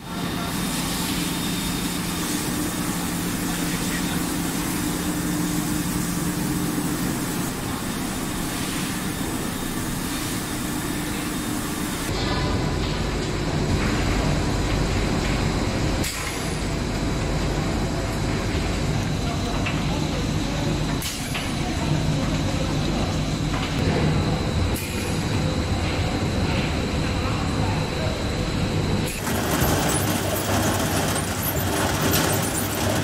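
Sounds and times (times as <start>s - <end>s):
industrial machinery running: 0.0s - 33.0s
deep machinery rumble: 1.7s - 33.0s.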